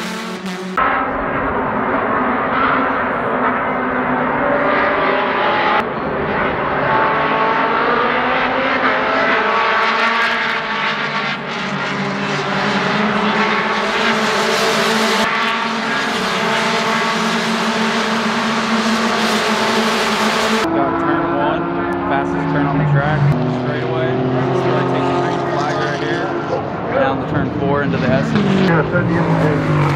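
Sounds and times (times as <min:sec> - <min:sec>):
race cars passing at speed: 0:00.0 - 0:29.9.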